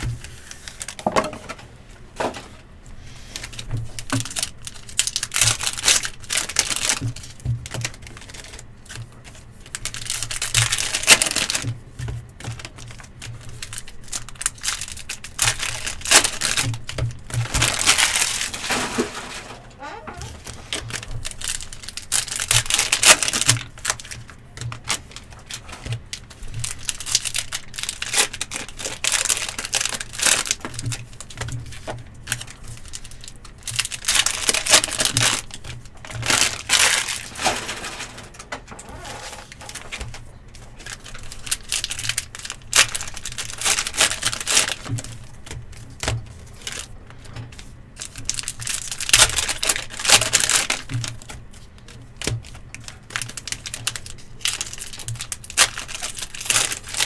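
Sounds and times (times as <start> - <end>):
wrappers torn and crinkled: 0.1 - 1.1, 3.3 - 11.8, 12.4 - 57.0.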